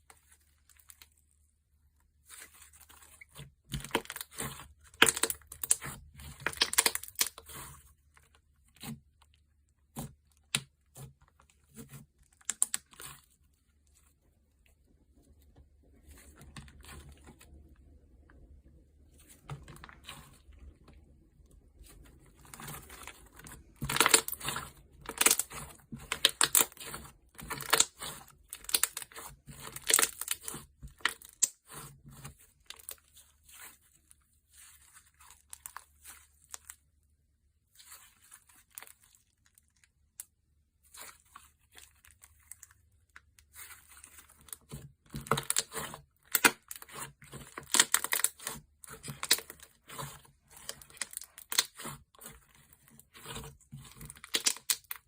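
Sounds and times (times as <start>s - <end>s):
slime squished by hand: 1.9s - 14.2s, 16.0s - 36.8s, 37.7s - 55.0s.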